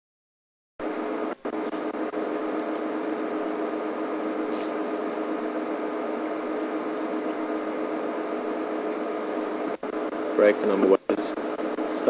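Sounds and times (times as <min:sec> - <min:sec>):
constant hiss: 0:00.8 - 0:12.0
mechanical hum: 0:00.8 - 0:12.0.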